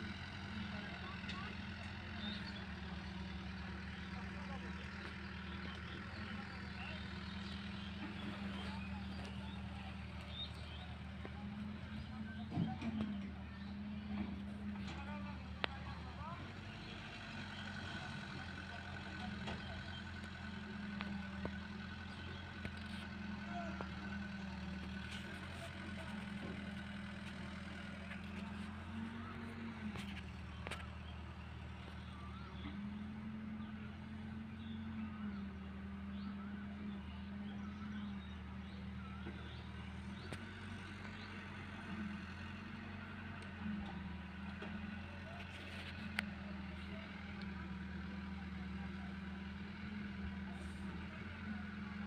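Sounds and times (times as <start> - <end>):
distant diesel engines droning: 0.0 - 52.0.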